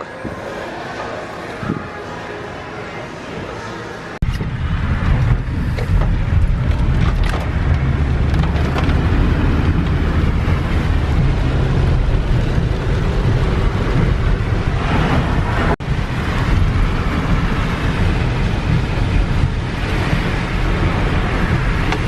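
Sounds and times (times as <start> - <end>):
car road noise rumble: 3.3 - 22.0.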